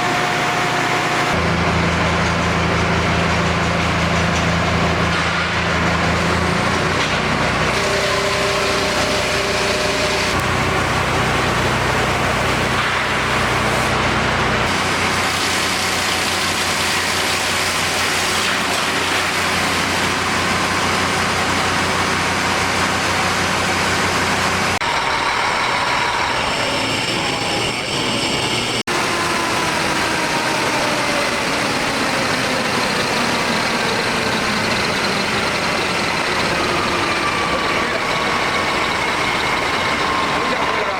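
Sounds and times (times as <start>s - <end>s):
wood chipper diesel engine running: 0.0s - 40.9s.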